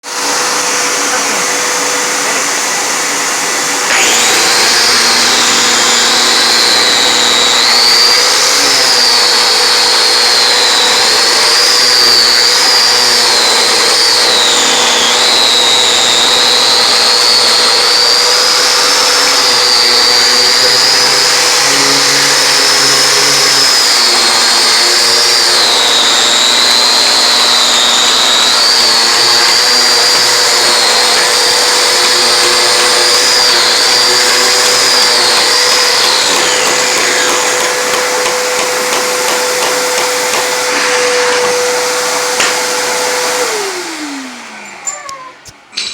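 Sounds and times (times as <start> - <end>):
angle grinder whining: 0.0 - 45.9
steady motor drone: 0.2 - 40.8.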